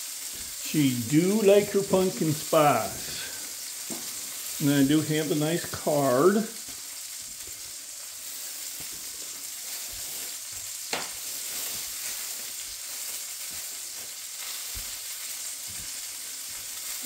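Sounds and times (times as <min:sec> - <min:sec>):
sausages sizzling in a frying pan: 0:00.0 - 0:17.0.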